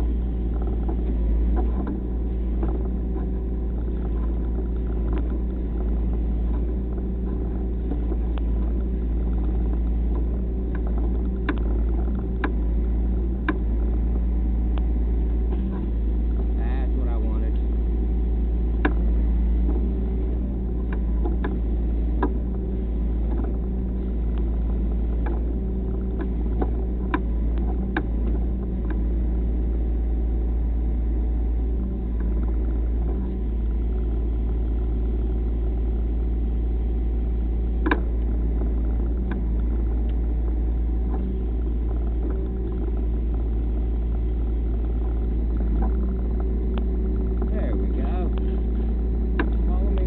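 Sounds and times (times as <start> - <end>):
engine rumbling: 0.0 - 50.0.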